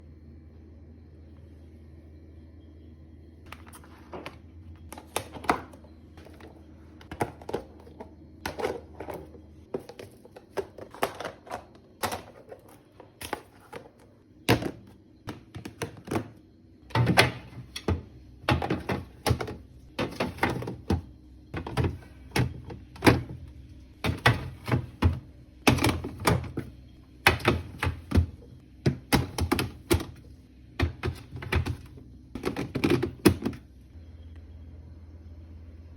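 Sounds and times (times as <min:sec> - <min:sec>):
containers clacking and knocking: 0:03.6 - 0:30.2, 0:30.8 - 0:33.6.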